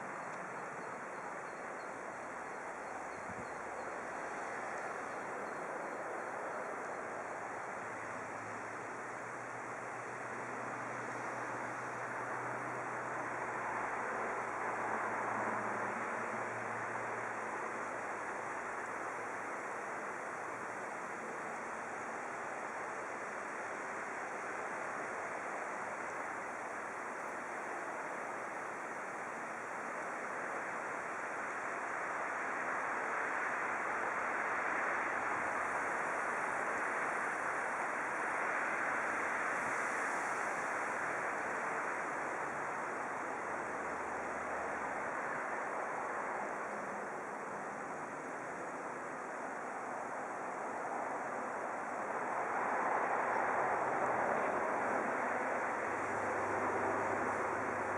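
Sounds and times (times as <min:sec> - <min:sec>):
steady rushing noise: 0:00.0 - 0:57.9.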